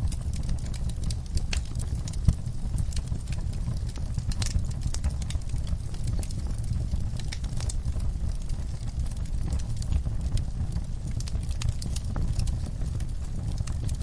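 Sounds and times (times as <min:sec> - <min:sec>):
low steady rumble: 0:00.0 - 0:14.0
wood fire crackling and popping: 0:00.0 - 0:14.0.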